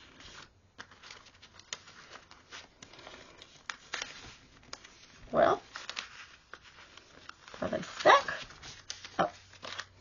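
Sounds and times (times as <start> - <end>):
paper rustling and scraping: 0.0 - 10.0.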